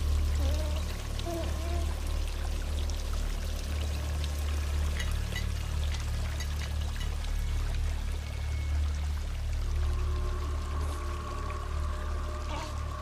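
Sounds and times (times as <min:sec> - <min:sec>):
deep low drone: 0:00.0 - 0:13.0
drips and small splashes: 0:00.0 - 0:13.0
water pouring: 0:00.0 - 0:13.0.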